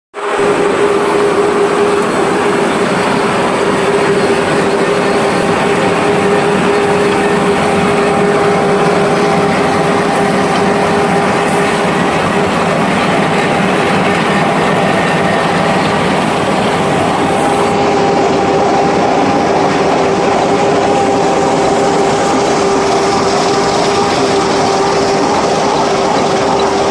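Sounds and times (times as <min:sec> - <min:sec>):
constant humming tone: 0:00.2 - 0:26.9
machine clattering: 0:00.3 - 0:26.9.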